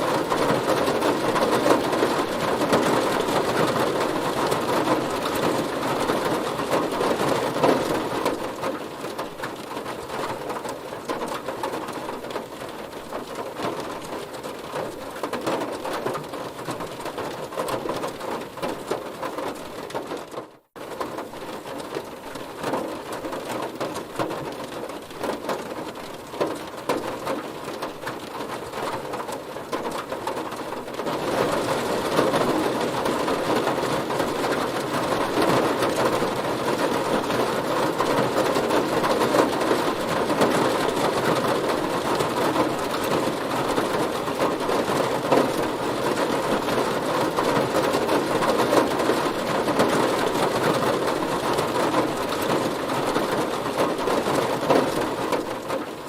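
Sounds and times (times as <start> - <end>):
heavy rain on a car: 0.0 - 56.0.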